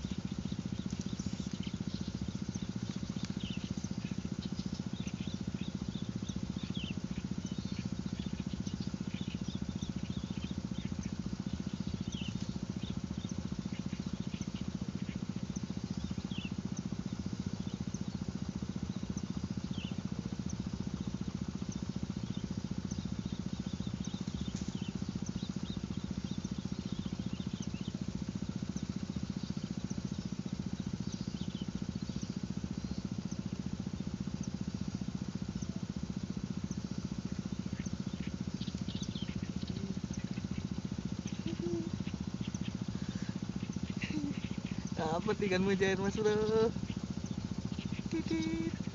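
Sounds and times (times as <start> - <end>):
motor pulsing drone: 0.0 - 48.9
small birds chirping: 0.0 - 48.9.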